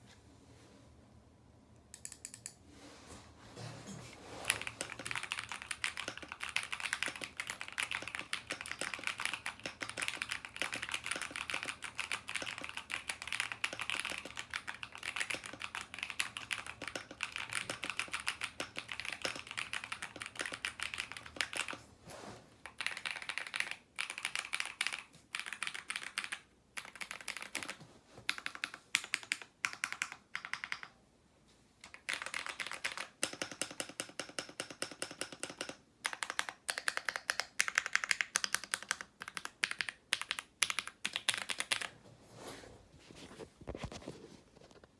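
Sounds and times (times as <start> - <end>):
mechanical keyboard typing: 2.0 - 2.6, 4.5 - 21.8, 22.6 - 30.9, 31.8 - 41.9.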